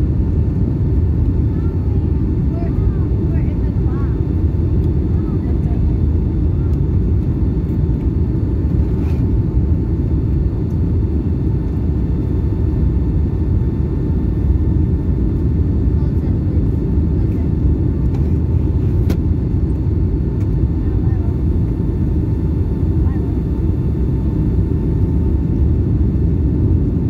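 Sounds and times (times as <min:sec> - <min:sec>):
aircraft cabin rumble: 0:00.0 - 0:27.0.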